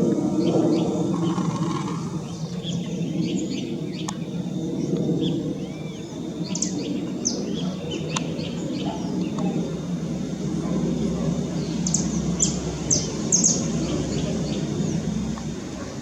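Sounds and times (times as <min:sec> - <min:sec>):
distant jet engine rumble: 0:00.0 - 0:16.0
birds chirping: 0:00.1 - 0:16.0.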